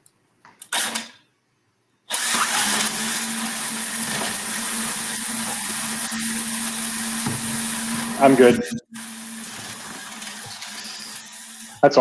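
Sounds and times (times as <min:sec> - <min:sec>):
robot electric motors whirring: 0:02.1 - 0:11.9.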